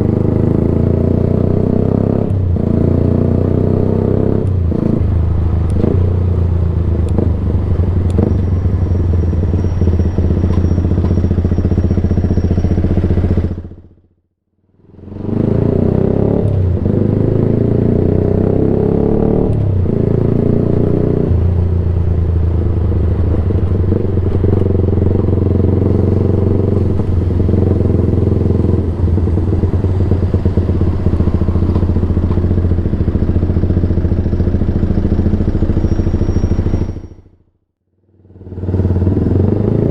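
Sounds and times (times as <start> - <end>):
loud motorcycle engine: 0.0 - 14.1, 14.8 - 37.4, 38.0 - 39.9.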